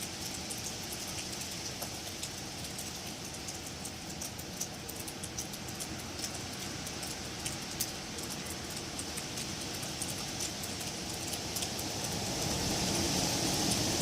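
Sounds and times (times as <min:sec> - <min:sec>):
small scattered ticks: 0:00.0 - 0:12.2
wind through trees: 0:00.0 - 0:14.0.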